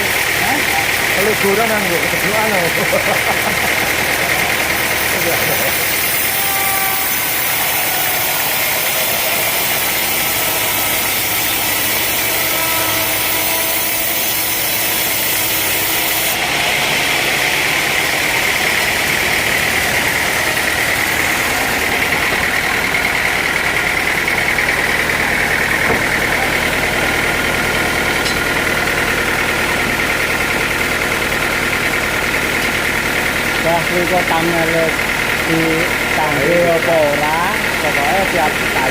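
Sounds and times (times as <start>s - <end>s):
high machine whine: 0.0s - 38.9s
sawmill motor drone: 0.0s - 38.9s.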